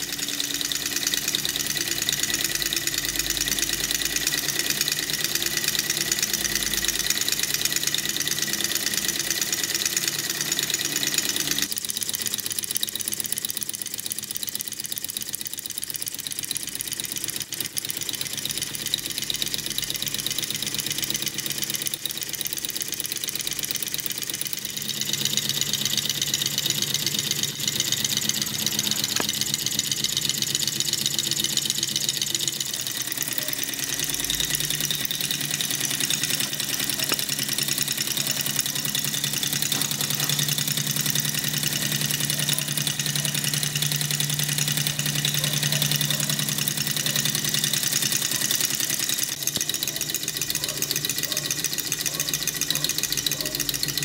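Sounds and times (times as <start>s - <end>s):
model engine ticking and humming: 0.0s - 54.0s.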